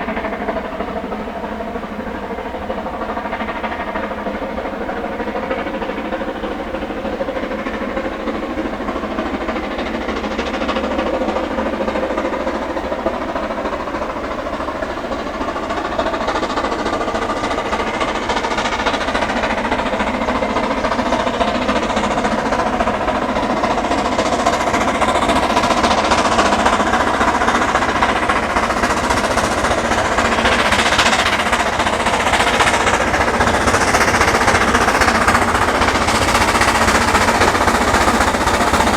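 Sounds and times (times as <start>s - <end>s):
steam locomotive exhaust beats: 0.0s - 38.9s.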